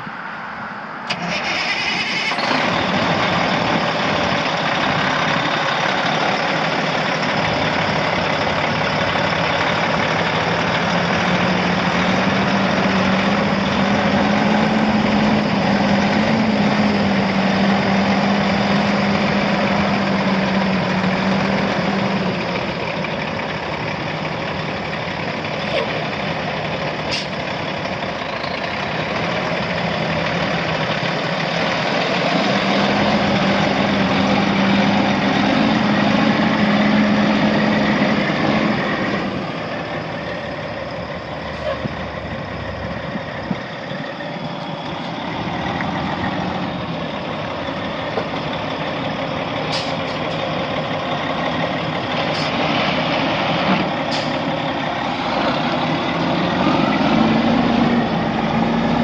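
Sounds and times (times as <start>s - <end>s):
truck diesel engine starting and running: 0.0s - 59.0s.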